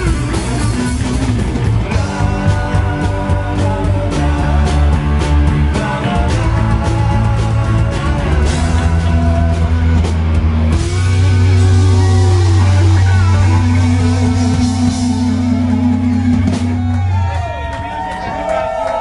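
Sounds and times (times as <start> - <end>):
drum kit: 0.0 - 18.9
electric bass: 0.0 - 19.0
electric guitars: 0.0 - 19.0.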